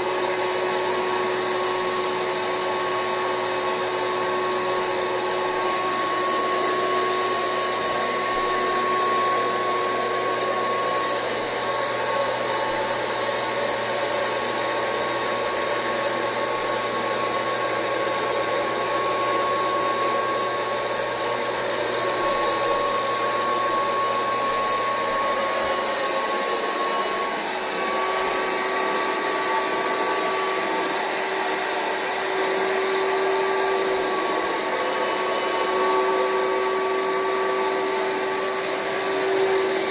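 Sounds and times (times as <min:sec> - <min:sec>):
carpet extractor vacuum motor: 0:00.0 - 0:39.9.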